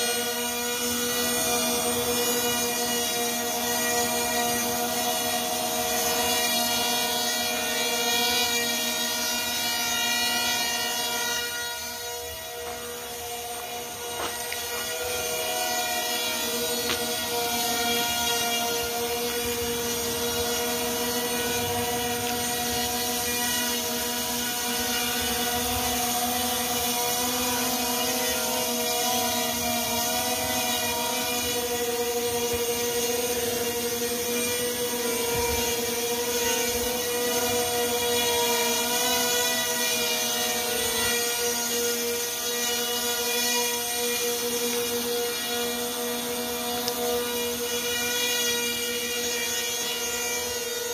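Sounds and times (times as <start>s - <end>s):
electric motors and propellers whining: 0.0s - 50.9s.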